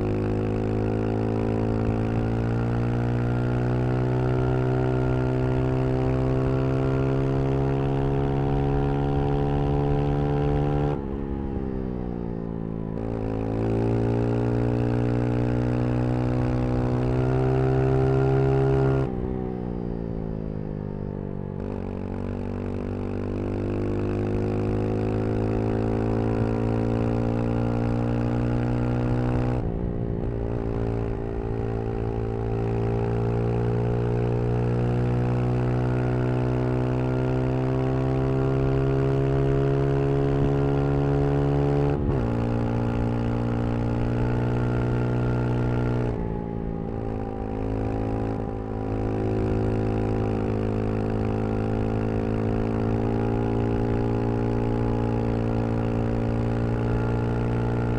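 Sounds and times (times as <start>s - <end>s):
motorcycle engine revving through gears: 0.0s - 19.5s, 21.5s - 57.9s.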